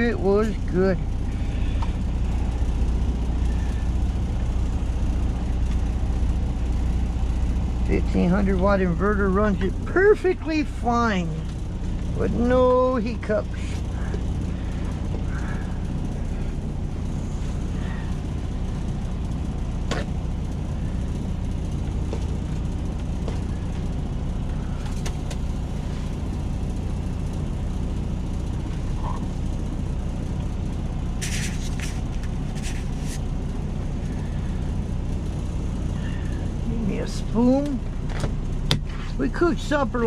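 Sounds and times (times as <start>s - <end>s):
truck diesel engine idling: 0.0s - 40.0s.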